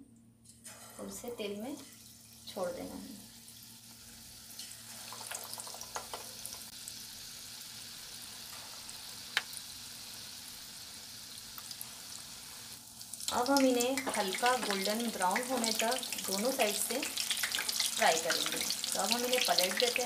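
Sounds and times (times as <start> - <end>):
food deep-frying in oil: 1.8 - 20.0.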